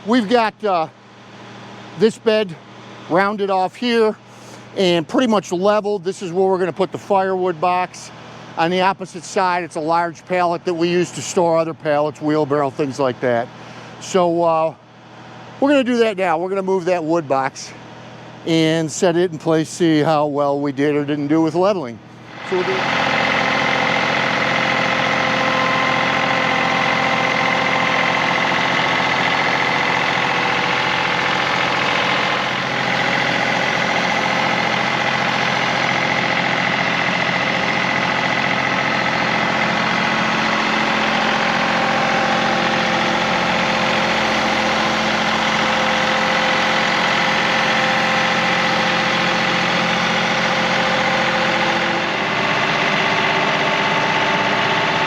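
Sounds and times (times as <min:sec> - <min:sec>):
compact tractor engine running: 0:00.0 - 0:14.2, 0:20.8 - 0:55.0.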